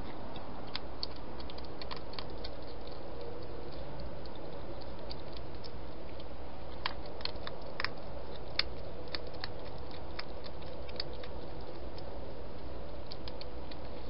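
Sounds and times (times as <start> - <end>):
hedgehog crunching food: 0.0 - 14.0.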